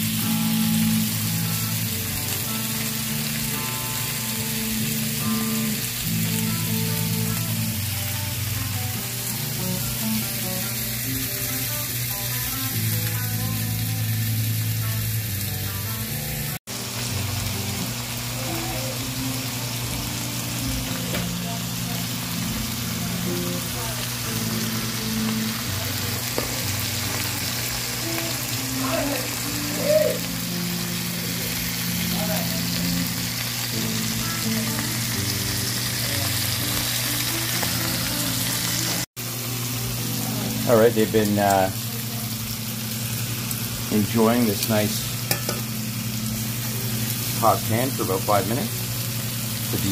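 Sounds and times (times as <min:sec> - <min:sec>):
background music: 0:00.0 - 0:49.9
steaks sizzling in a pan: 0:00.0 - 0:49.9.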